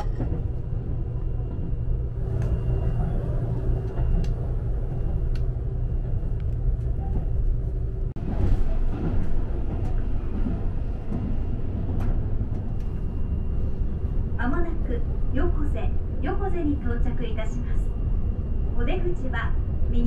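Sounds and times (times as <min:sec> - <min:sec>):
train rumble from inside cabin: 0:00.0 - 0:20.0.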